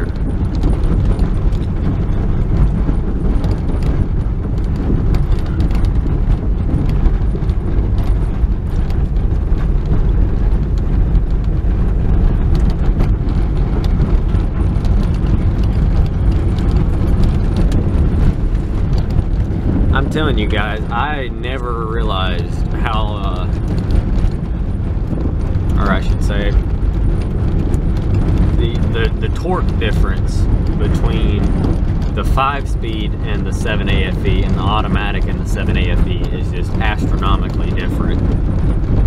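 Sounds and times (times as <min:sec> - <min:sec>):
car engine droning: 0:00.0 - 0:39.0
stones crackling under car: 0:00.0 - 0:39.0
tyres rolling over gravel: 0:00.0 - 0:39.0.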